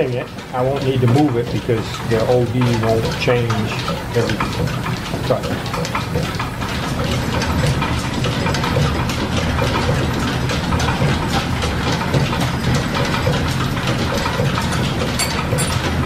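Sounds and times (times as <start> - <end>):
light mechanical clatter: 0.0 - 16.0
metal lathe running: 0.0 - 16.0.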